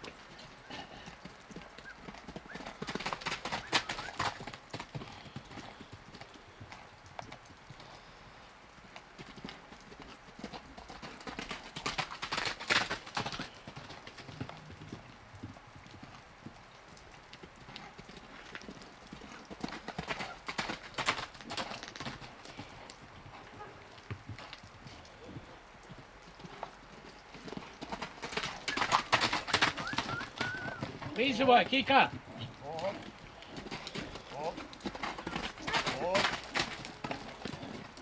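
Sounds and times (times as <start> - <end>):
horse hoofbeats cantering: 0.0 - 38.0.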